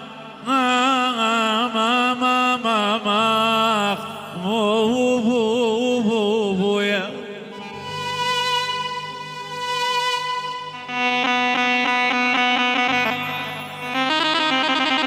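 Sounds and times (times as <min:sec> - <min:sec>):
ornamented vocal melody with vibrato: 0:00.0 - 0:15.0.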